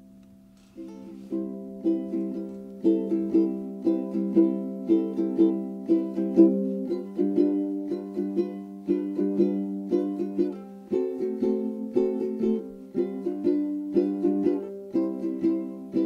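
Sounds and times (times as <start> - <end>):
plucked string instrument tune: 0.0 - 16.0.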